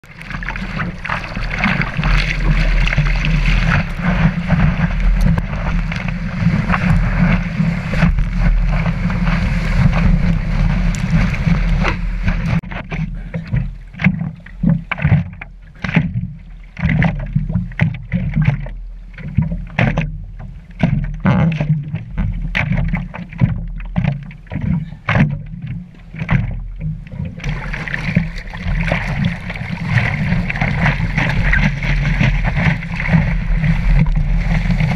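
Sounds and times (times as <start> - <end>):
seawater splashing against surfboard: 0.0 - 34.9.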